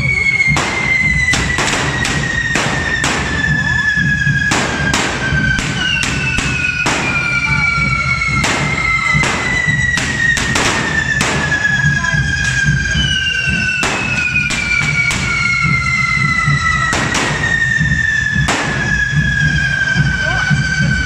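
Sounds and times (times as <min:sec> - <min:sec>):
firework bangs: 0:00.0 - 0:20.0
fireworks whistling: 0:00.0 - 0:21.0.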